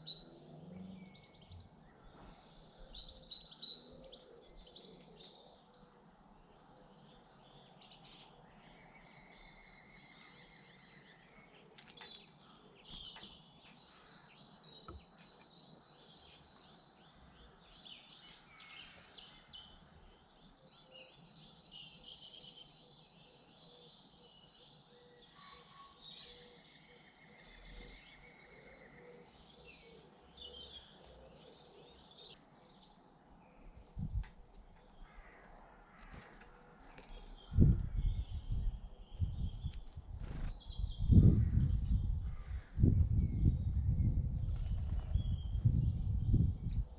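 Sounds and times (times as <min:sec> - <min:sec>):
songbirds chirping and twittering: 0:00.0 - 0:46.9.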